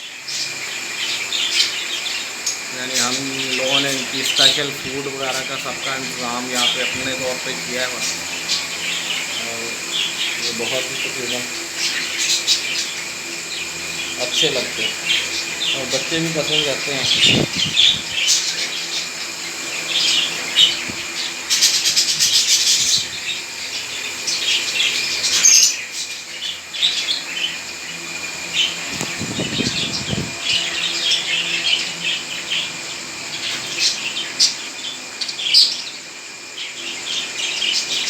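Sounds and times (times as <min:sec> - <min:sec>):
parrots chirping and squawking: 0:00.0 - 0:38.0.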